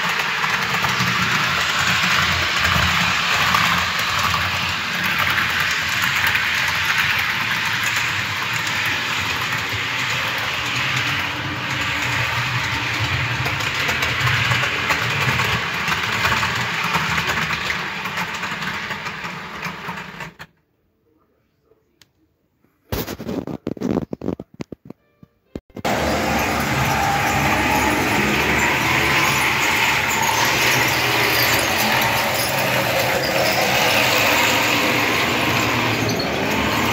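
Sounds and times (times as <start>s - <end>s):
model train motors whirring: 0.0s - 20.3s, 25.9s - 36.9s.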